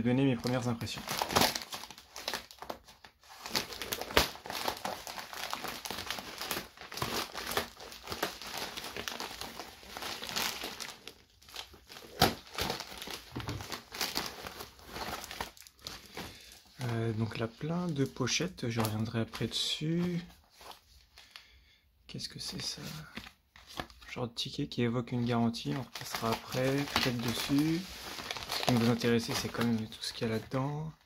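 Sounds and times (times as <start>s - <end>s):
plastic mailer crinkling and rustling: 0.2s - 20.9s, 25.5s - 31.0s.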